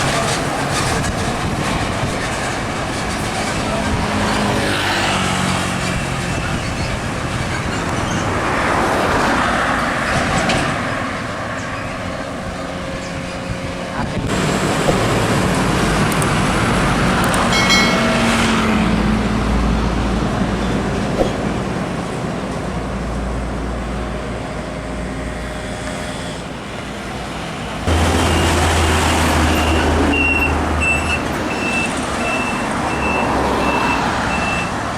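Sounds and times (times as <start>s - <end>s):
trucks passing on highway: 0.0s - 34.9s.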